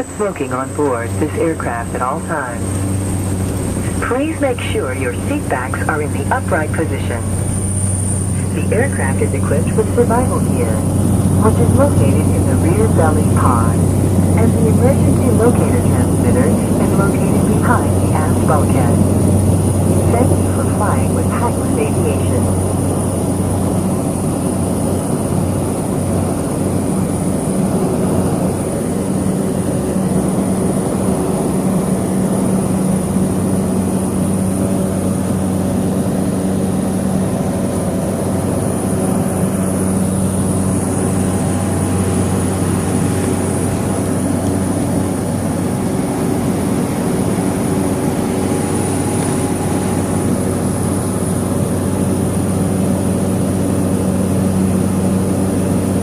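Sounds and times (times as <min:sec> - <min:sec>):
high turbine whine: 0:00.0 - 0:56.0
turboprop engine drone: 0:00.0 - 0:56.0.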